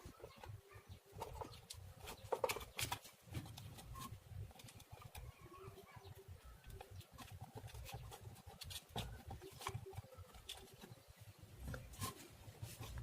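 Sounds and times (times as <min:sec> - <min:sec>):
faint clicks and taps: 0:00.0 - 0:12.2.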